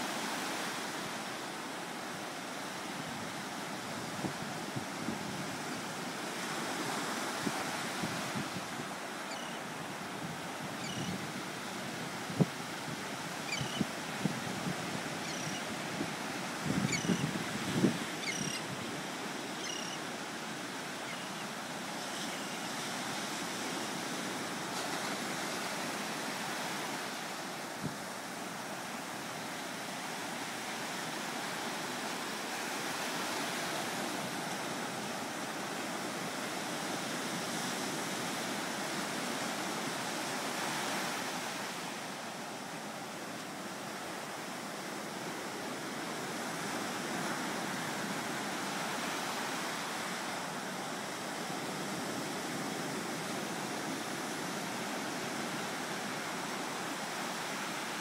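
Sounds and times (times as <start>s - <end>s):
waves breaking on a beach: 0.0s - 58.0s.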